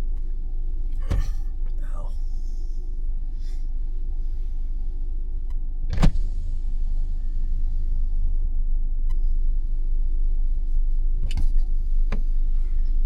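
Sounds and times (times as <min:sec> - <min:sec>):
low hum inside a car: 0:00.0 - 0:13.0.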